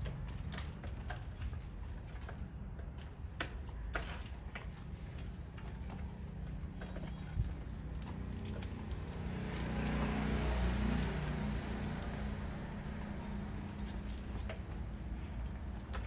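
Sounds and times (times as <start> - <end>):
bicycle wheels clicking and rattling: 0.0 - 16.0.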